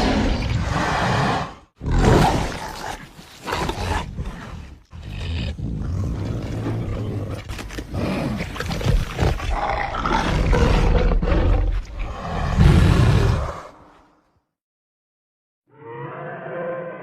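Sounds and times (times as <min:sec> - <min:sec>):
dinosaur roars and growls: 0:00.0 - 0:14.0, 0:15.7 - 0:17.0.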